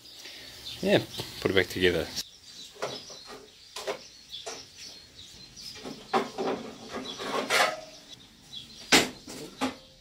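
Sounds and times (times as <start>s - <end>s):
birds chirping faintly: 0.0s - 10.0s.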